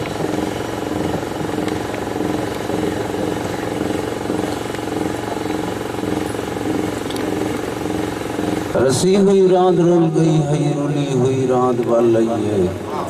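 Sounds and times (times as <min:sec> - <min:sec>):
mechanical rumble with hum: 0:00.0 - 0:13.0.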